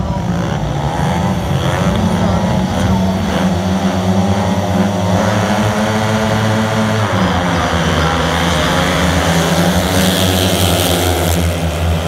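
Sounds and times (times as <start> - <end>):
motorcycles revving: 0.0 - 12.0.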